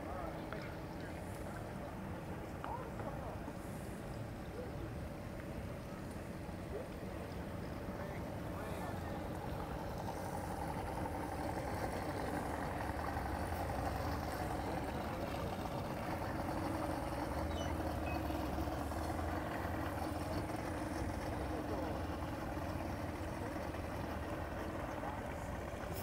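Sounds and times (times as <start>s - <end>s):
outboard motors idling: 0.0s - 26.0s.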